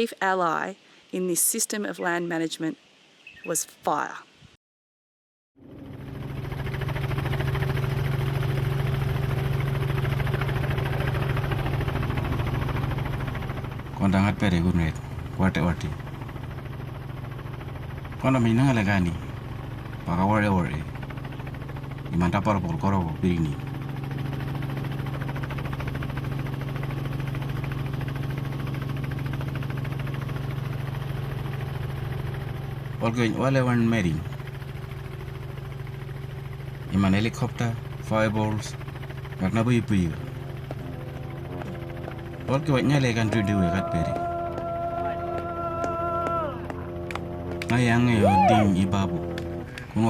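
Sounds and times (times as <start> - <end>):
engine droning: 5.6 - 50.0.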